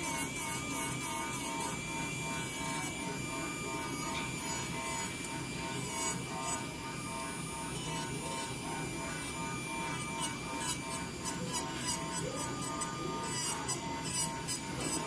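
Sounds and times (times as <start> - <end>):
electric nail drill grinding: 0.0 - 15.0.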